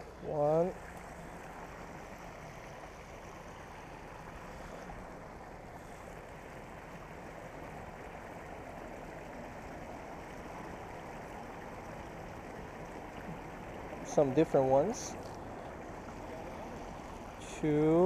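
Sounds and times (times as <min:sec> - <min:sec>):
water rushing over a weir: 0:00.0 - 0:18.0.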